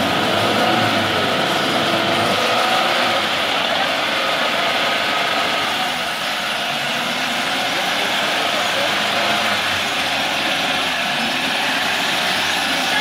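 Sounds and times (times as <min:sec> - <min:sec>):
car engine running: 0:00.0 - 0:13.0
winch hauling on cable: 0:00.0 - 0:13.0.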